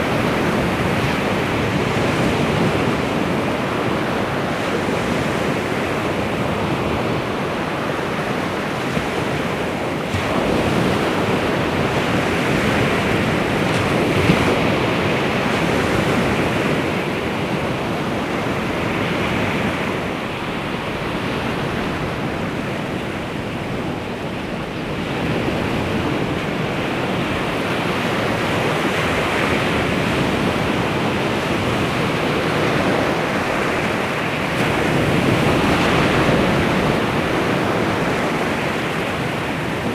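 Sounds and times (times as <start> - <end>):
waves washing onto shore: 0.0 - 39.9
wind: 0.0 - 39.9.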